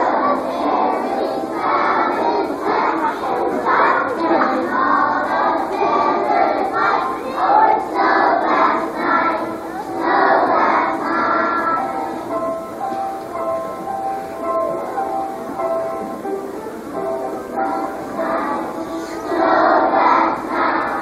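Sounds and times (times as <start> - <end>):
children's choir singing: 0.0 - 21.0.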